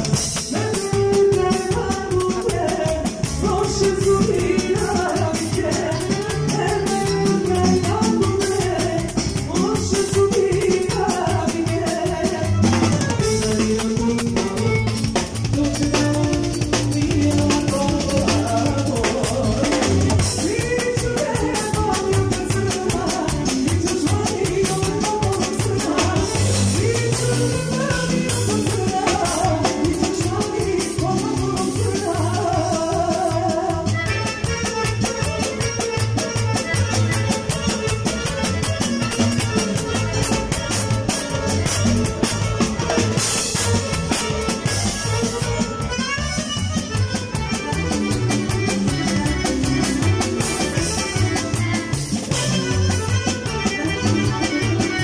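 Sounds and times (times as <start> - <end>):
bass line: 0.0 - 55.0
drum kit: 0.0 - 55.0
live band music: 0.0 - 55.0.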